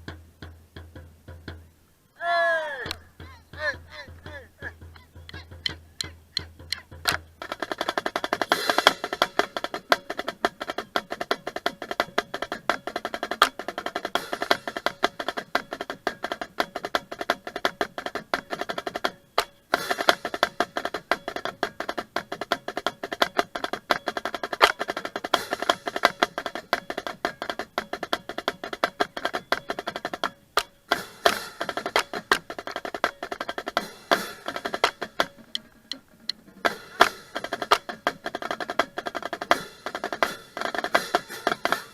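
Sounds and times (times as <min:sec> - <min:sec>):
marching drumline playing: 0:02.8 - 0:41.9
drum rim clicks: 0:04.9 - 0:41.9.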